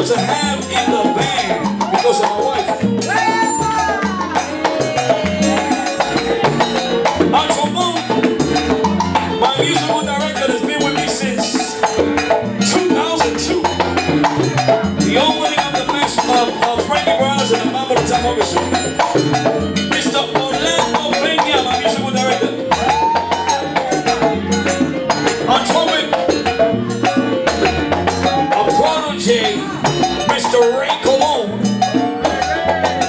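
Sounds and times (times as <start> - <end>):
salsa band playing: 0.0 - 33.0.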